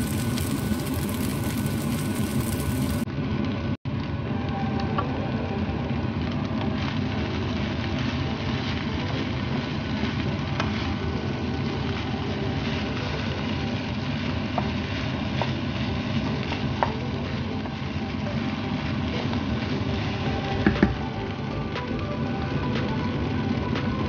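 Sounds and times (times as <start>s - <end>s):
rice sizzling in a pan: 0.0s - 24.0s.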